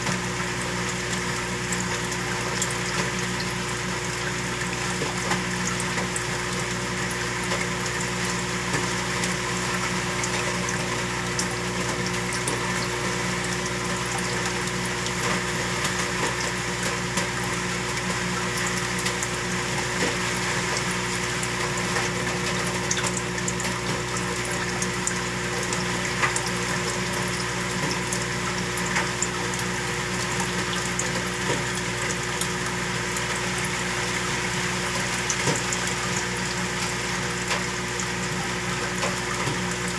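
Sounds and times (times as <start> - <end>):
aquarium pump humming: 0.0 - 39.9.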